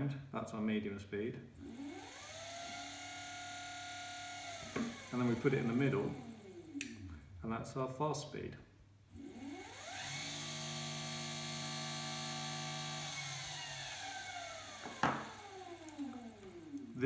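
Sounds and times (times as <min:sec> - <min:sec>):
electric motor whining: 0:01.6 - 0:07.4, 0:09.1 - 0:17.0.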